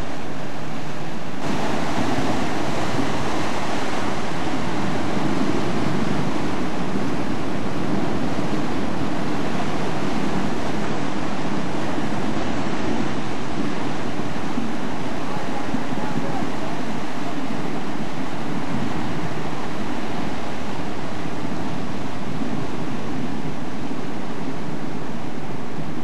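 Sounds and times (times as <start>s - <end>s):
sea water rushing: 0.0s - 26.0s
wind buffeting microphone: 0.0s - 26.0s
wind rushing: 1.1s - 26.0s.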